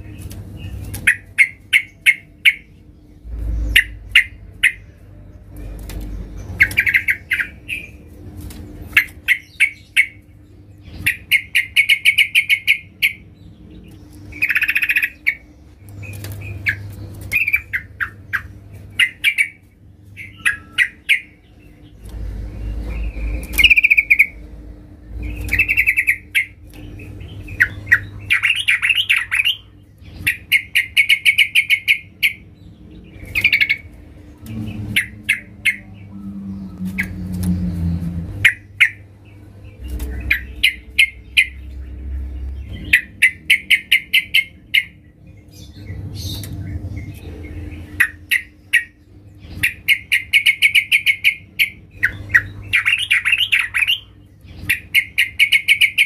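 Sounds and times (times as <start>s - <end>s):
bird chattering calls: 0.6s - 2.8s, 3.4s - 5.0s, 6.4s - 8.0s, 8.9s - 10.3s, 10.9s - 13.2s, 14.2s - 24.4s, 25.2s - 32.5s, 33.2s - 45.1s, 45.8s - 56.0s.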